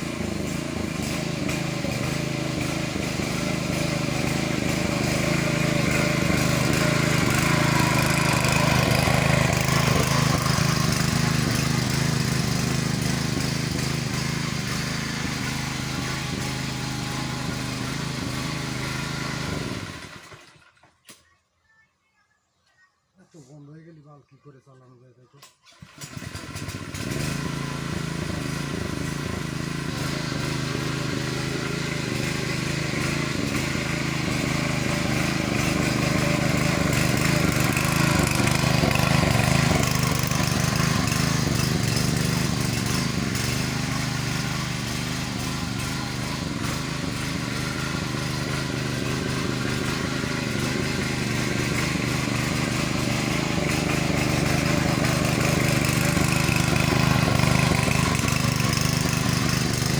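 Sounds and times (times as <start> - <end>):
small engine running: 0.0 - 21.0, 25.6 - 59.9.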